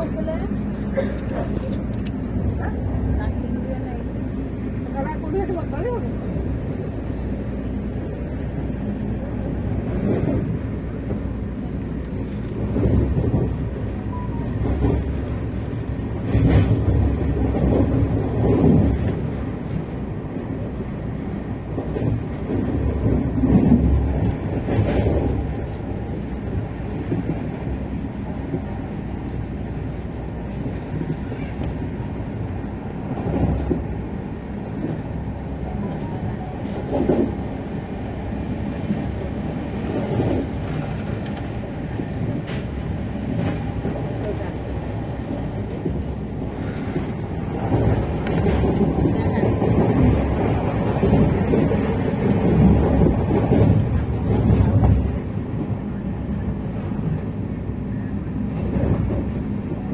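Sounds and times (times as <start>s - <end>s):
moving vehicle rumble: 0.0s - 59.9s.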